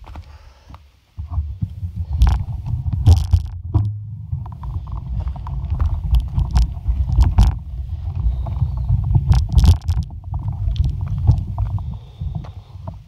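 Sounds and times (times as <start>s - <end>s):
bike knocking and rattling: 1.2s - 13.0s
wind rumble on microphone: 1.2s - 13.0s.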